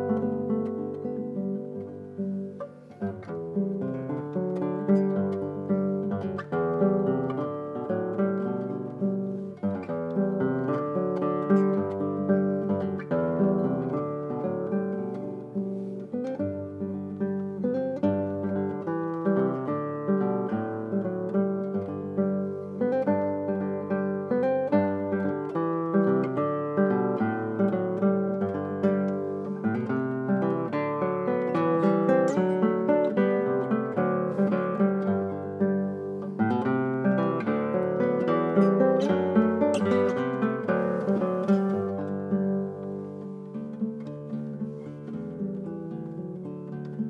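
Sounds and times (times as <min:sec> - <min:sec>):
fingerstyle classical guitar: 0:00.0 - 0:47.0.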